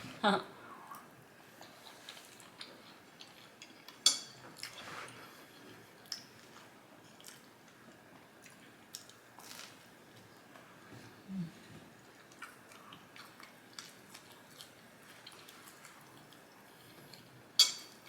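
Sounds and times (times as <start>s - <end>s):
quiet chewing: 0.8s - 17.5s.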